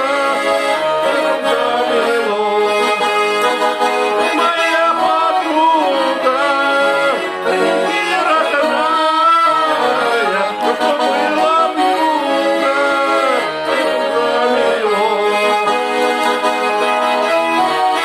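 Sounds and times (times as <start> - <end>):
accordion music: 0.0 - 18.0.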